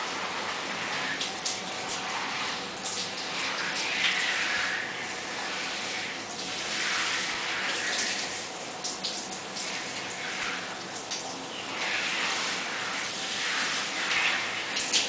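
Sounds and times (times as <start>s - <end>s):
shower spray hissing and splashing: 0.0s - 15.0s.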